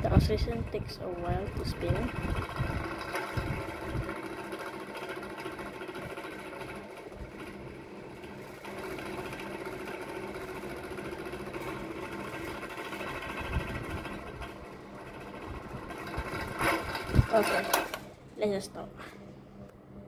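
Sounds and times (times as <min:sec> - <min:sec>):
table fan motor hum: 0:00.0 - 0:20.0.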